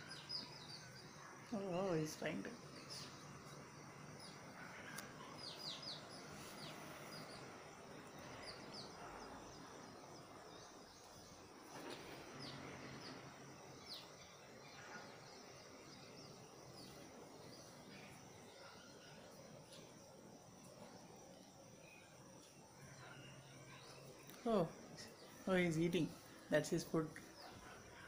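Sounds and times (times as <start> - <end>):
faint sparrow chirps: 0.0 - 28.0.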